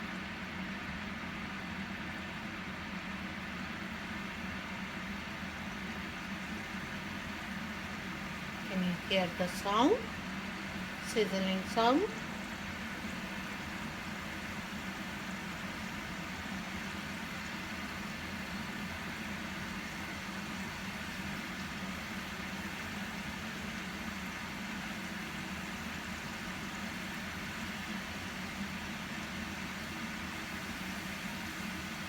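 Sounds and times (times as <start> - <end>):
dough sizzling in hot oil: 0.0 - 32.0.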